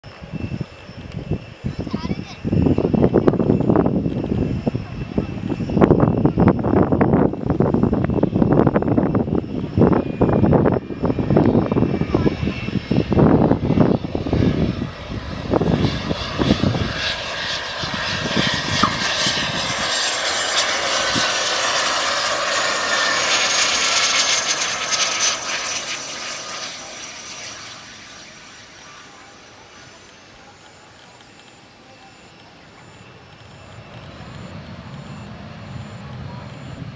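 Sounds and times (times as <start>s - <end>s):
wind buffeting microphone: 0.0s - 28.2s, 32.6s - 36.9s
jet engines whining: 0.1s - 36.9s.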